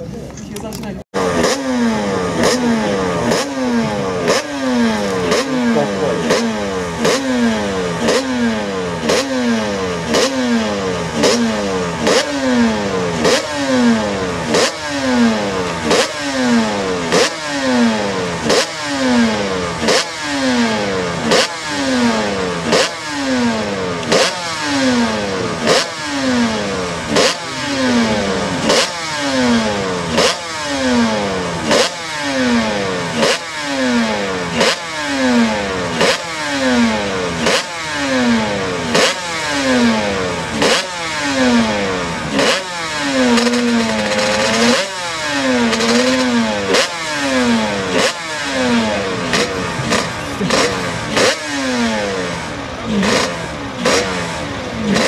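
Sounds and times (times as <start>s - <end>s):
race engine revving: 0.6s - 55.0s.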